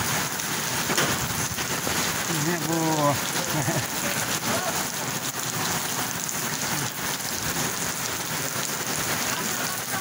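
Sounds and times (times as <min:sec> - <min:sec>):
rain on a cobblestone street: 0:00.0 - 0:10.0.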